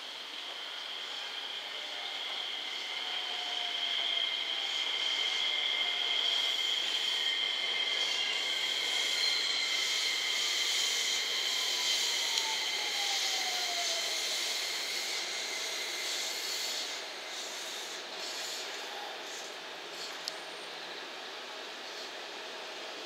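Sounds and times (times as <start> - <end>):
steady high whine: 0.0 - 23.0
wheels hissing on rail: 0.0 - 23.0.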